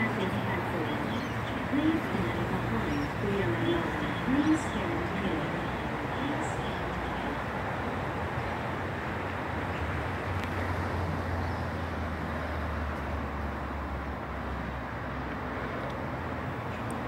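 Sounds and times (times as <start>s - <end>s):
distant electric train rumble: 0.0s - 17.0s
steady outdoor hiss: 0.0s - 17.0s.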